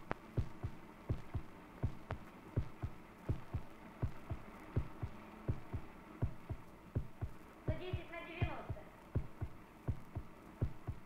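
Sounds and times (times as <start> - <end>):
heartbeat thumping: 0.0 - 11.0.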